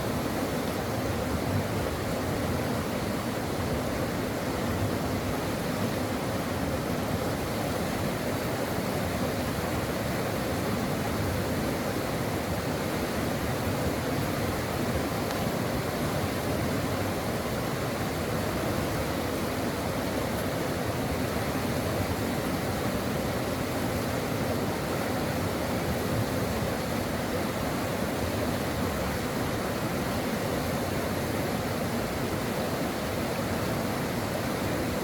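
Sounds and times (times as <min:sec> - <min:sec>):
stream water flowing: 0:00.0 - 0:35.0.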